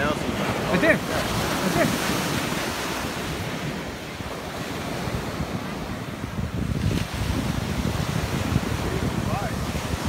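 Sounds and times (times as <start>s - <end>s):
ocean surf washing onto beach: 0.0s - 10.0s
wind buffeting the microphone: 0.0s - 10.0s.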